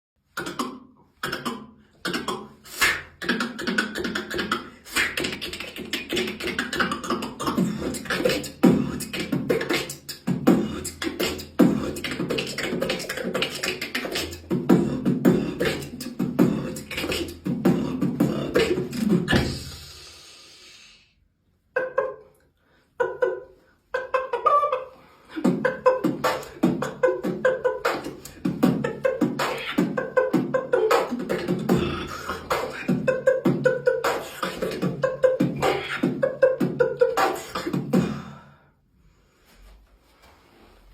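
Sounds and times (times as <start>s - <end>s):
beatboxing: 0.2s - 38.6s.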